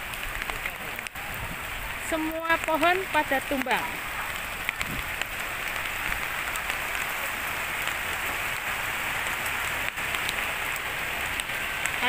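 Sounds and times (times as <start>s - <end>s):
rain pattering: 0.0s - 12.0s
water drips: 0.0s - 12.0s.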